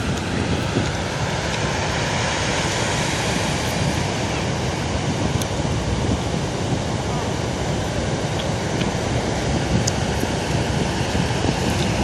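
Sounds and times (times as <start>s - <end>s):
heavy surf breaking: 0.0s - 12.0s
wind buffeting microphone: 0.0s - 12.0s.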